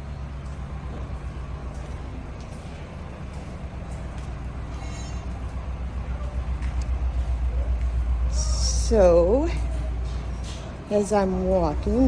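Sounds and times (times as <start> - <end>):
heavy machinery engine rumble: 0.0 - 12.0.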